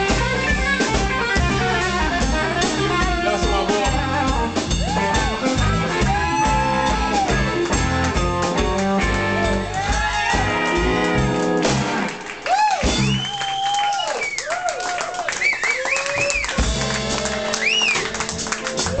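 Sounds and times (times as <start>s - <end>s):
live blues band playing: 0.0s - 13.5s, 16.1s - 19.0s.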